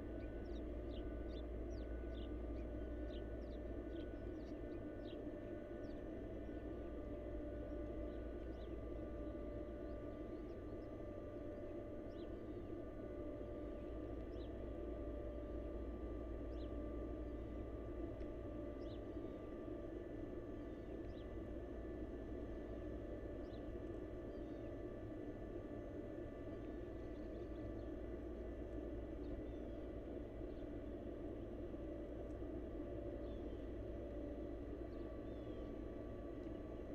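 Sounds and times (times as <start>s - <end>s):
low background rumble and hiss: 0.0s - 36.9s
low hum with thin tones: 0.0s - 36.9s.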